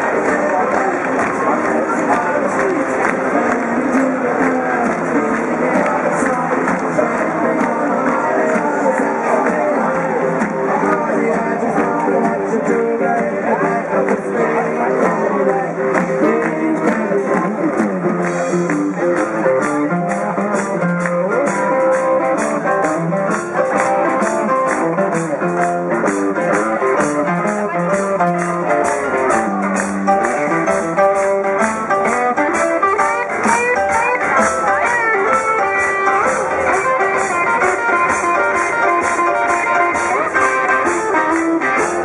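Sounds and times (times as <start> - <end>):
drums: 0.0 - 42.0
electric guitar: 0.0 - 42.0.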